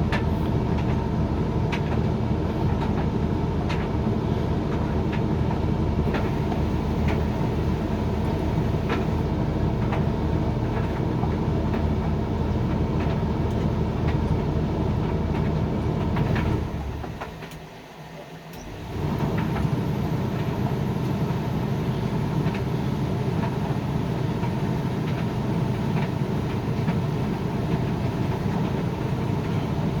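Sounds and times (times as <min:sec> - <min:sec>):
tumble dryer running: 0:00.0 - 0:30.0.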